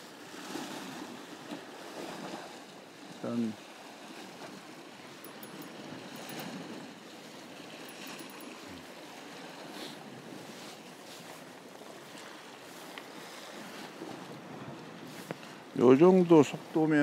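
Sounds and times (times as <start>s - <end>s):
waves against rocky shore: 0.0s - 17.0s.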